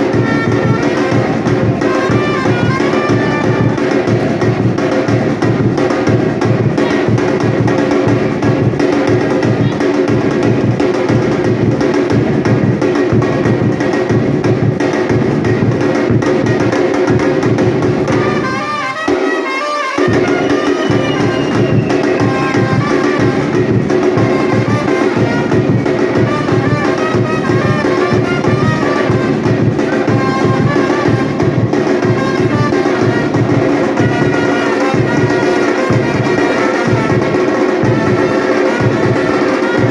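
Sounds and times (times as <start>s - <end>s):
samba drum ensemble: 0.0s - 39.9s.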